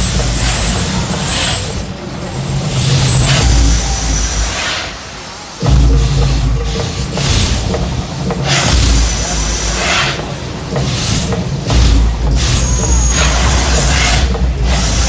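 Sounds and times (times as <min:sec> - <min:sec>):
volcano show deep rumble: 0:00.0 - 0:15.0.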